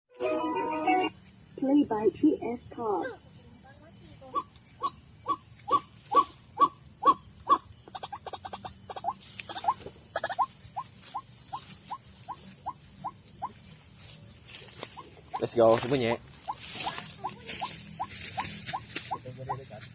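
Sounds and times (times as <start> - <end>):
high insect drone: 0.1 - 19.9.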